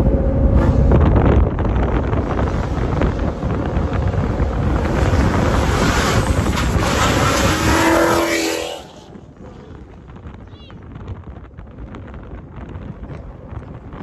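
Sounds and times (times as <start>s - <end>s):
car engine: 0.0s - 14.0s
road noise: 0.0s - 14.0s
wind buffeting microphone: 0.0s - 14.0s.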